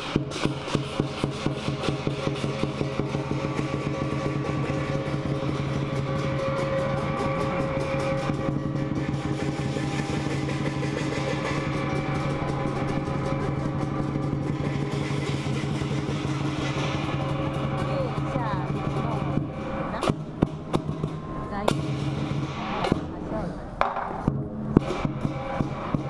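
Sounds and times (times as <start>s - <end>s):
gong and cymbals ringing: 0.0s - 23.0s
drum beating: 0.0s - 26.0s.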